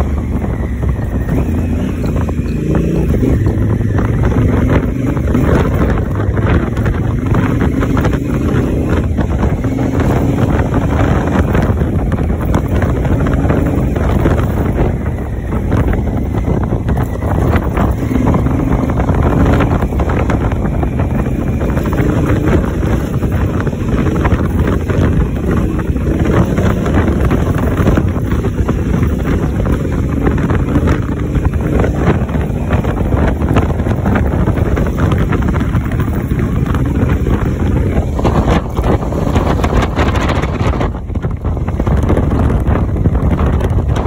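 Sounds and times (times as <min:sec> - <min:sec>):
motorcycle engine running: 0:00.0 - 0:44.0
wind buffeting microphone: 0:00.0 - 0:44.0.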